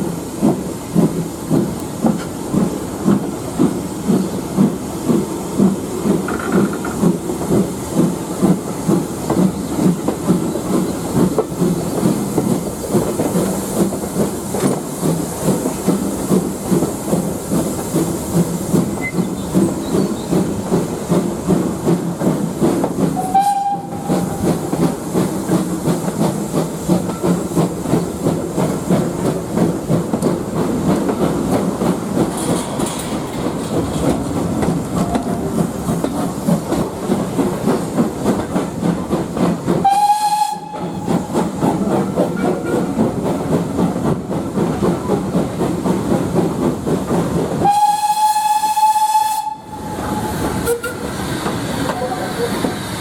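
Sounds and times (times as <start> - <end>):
steam hiss: 0.0 - 53.0
steam train rhythmic chugging: 0.0 - 53.0.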